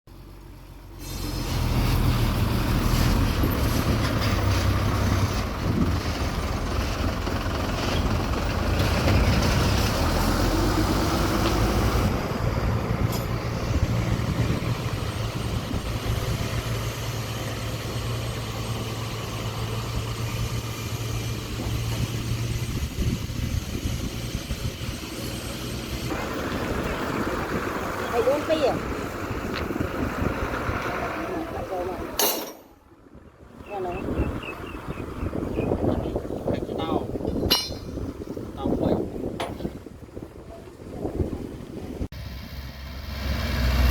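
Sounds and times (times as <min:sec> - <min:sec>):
diesel truck engine rumbling: 0:00.1 - 0:43.9.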